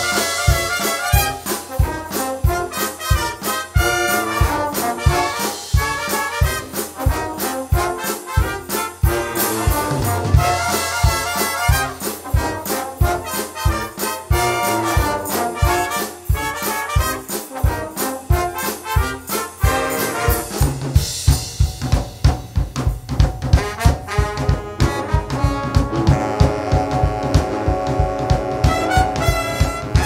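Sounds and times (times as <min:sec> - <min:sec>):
brass band playing: 0:00.0 - 0:30.0
drum kit beat: 0:00.0 - 0:30.0.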